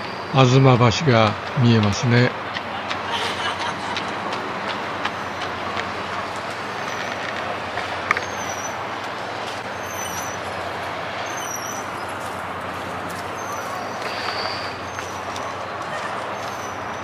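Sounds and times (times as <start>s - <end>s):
city road traffic hum: 0.0s - 17.0s.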